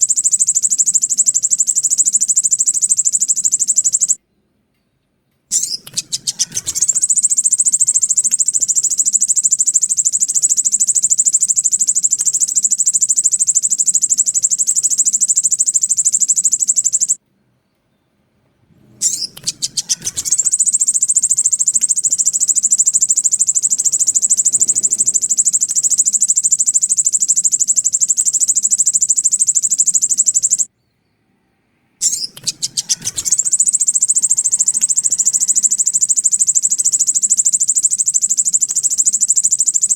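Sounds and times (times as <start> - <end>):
bird trill call: 0.0 - 4.2, 5.5 - 17.2, 19.0 - 30.7, 32.0 - 39.9.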